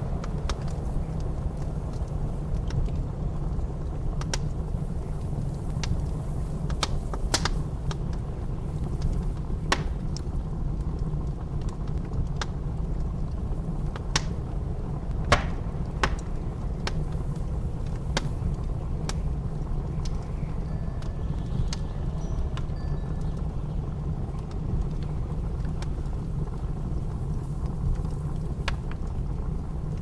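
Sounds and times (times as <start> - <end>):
low blizzard wind rumble: 0.0 - 30.0
wood fire crackling and popping: 0.0 - 30.0.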